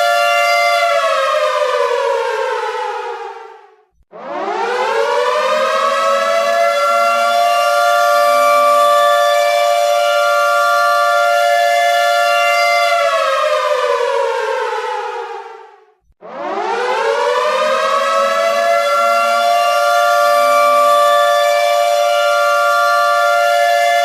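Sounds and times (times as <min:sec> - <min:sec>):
air raid siren wailing: 0:00.0 - 0:24.0.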